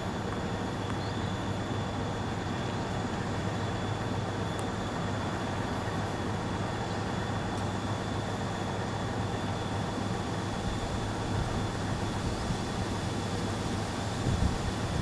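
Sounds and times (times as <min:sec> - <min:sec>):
faint high whine: 0:00.0 - 0:15.0
low engine-like rumble: 0:00.0 - 0:15.0.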